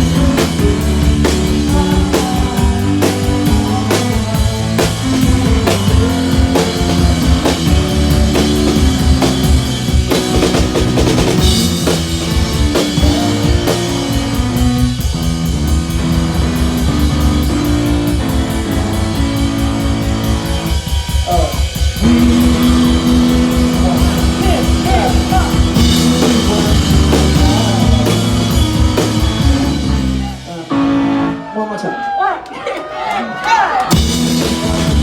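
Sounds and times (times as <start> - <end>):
drum kit beat: 0.0 - 31.3, 33.8 - 35.0
sustained keyboard chords: 0.0 - 31.4.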